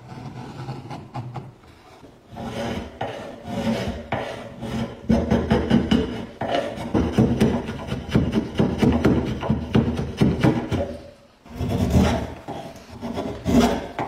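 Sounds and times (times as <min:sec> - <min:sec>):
hand file rasping on wood: 0:00.0 - 0:01.5, 0:02.3 - 0:10.8, 0:11.5 - 0:14.0.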